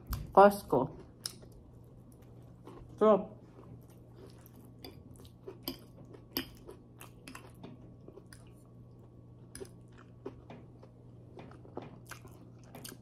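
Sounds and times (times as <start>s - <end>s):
person chewing with wet clicks: 1.0s - 13.0s.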